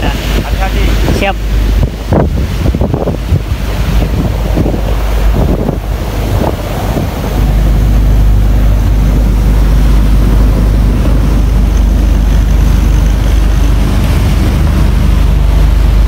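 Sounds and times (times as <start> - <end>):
boat engine drone: 0.0 - 16.0
rushing water: 0.0 - 16.0
wind roar on microphone: 0.0 - 16.0.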